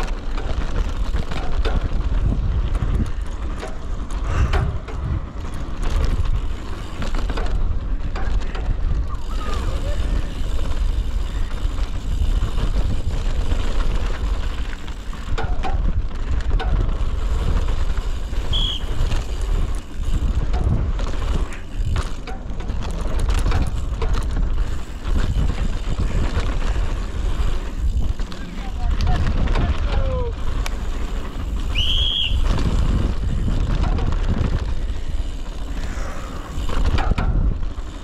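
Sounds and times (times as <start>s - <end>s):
bike knocking and rattling: 0.0s - 38.0s
bike tyres on dirt: 0.0s - 38.0s
wind rumble on microphone: 0.0s - 38.0s.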